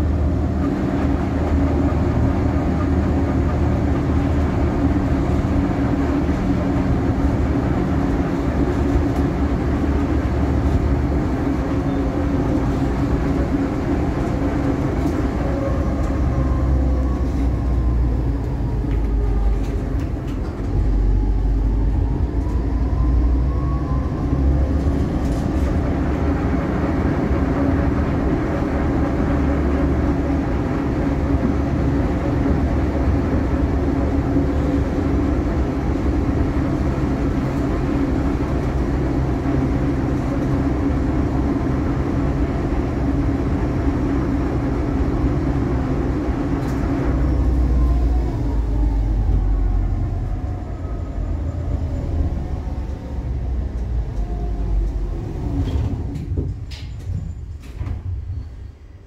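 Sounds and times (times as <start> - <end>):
tram wheels rumbling on rail: 0.0 - 59.0.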